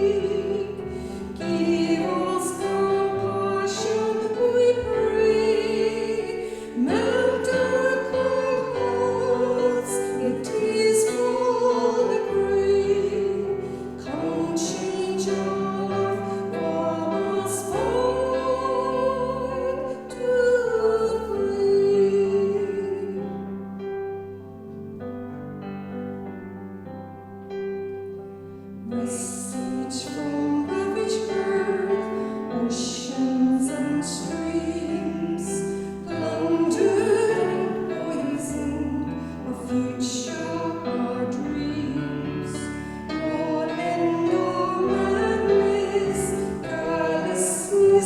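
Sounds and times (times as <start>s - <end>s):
hymn singing with vibrato: 0.0s - 23.4s, 28.8s - 48.0s.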